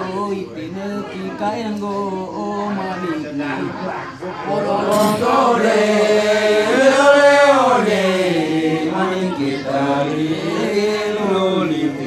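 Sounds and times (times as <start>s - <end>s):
men chanting in held notes: 0.0s - 12.0s.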